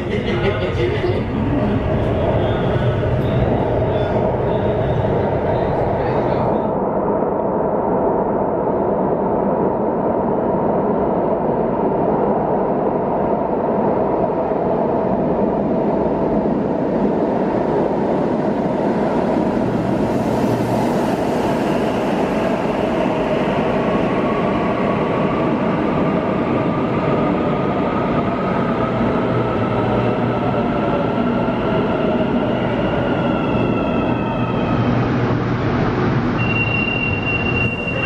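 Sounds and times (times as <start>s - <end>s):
metro train rumble: 0.0s - 38.0s.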